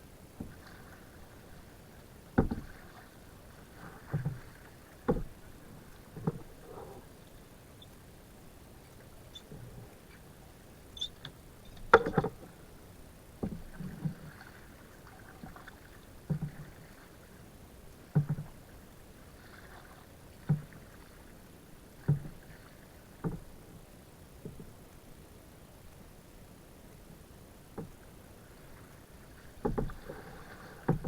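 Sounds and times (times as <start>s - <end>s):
paddle strokes splashing: 0.0s - 23.7s, 27.7s - 31.0s.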